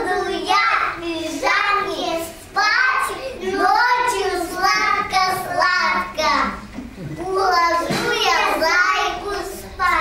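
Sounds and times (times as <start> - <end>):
young children singing: 0.0 - 10.0.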